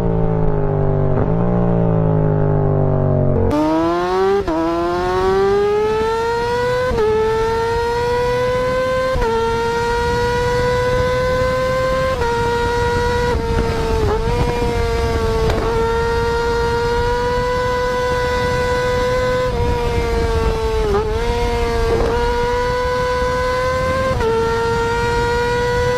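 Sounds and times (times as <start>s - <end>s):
motorcycle accelerating hard: 0.0s - 25.9s.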